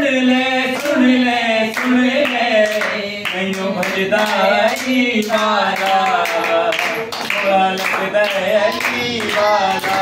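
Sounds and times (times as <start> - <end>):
group of people singing: 0.0 - 10.0
hand clapping: 0.7 - 1.1, 1.7 - 10.0.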